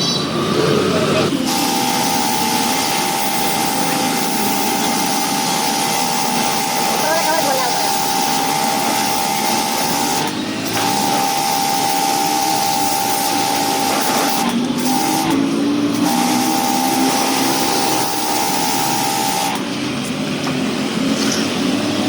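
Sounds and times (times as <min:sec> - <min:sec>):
pressure washer spray hiss: 0:01.3 - 0:20.3.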